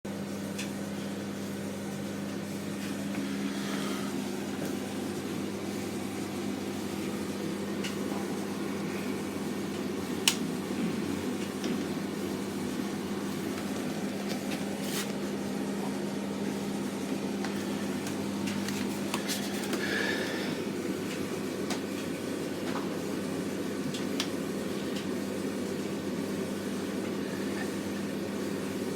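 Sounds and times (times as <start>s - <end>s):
tumble dryer humming: 0.1s - 28.9s.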